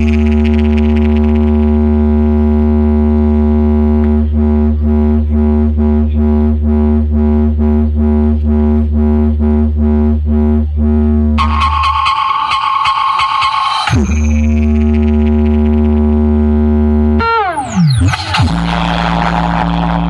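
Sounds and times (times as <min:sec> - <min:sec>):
bass-heavy synthesizer drone: 0:00.0 - 0:20.0.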